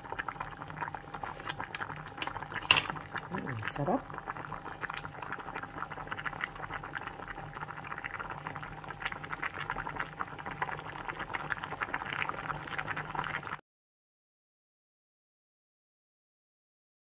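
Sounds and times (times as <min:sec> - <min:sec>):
stew boiling with bubbles bursting: 0:00.0 - 0:13.6.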